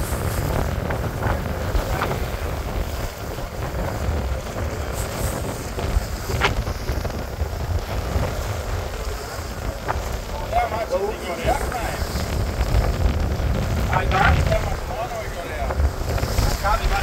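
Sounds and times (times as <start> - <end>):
boat engines rumbling: 0.0 - 17.0
churning water wash: 0.0 - 17.0
wind buffeting microphone: 0.0 - 17.0.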